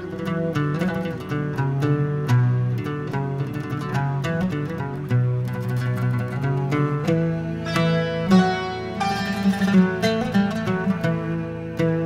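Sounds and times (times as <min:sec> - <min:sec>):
plucked string instruments: 0:00.0 - 0:12.0.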